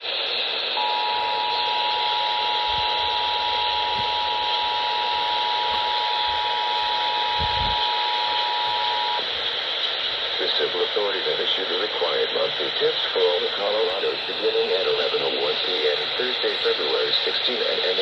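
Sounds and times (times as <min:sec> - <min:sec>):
radio static hiss: 0:00.0 - 0:18.0
steady dual tone: 0:00.0 - 0:18.0.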